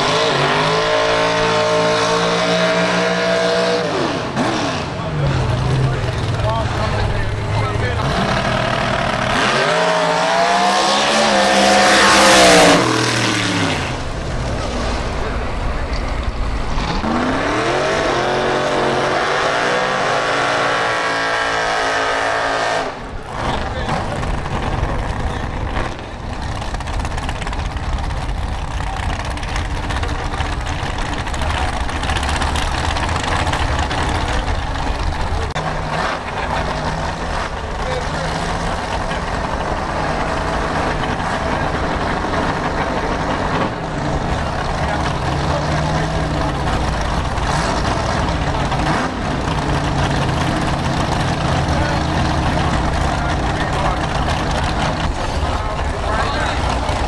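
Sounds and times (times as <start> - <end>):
race car engine revving: 0.0 - 57.0
tires spinning in burnout: 0.0 - 57.0.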